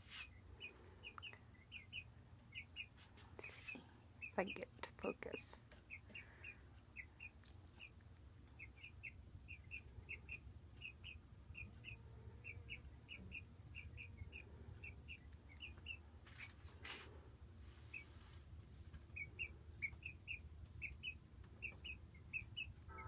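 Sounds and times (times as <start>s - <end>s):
small birds chirping: 0.1s - 23.0s.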